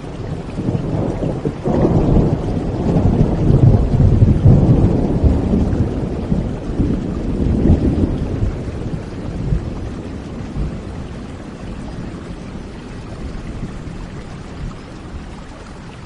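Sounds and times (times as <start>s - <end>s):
thunder rolling: 0.0s - 14.7s
steady rain: 0.0s - 16.0s.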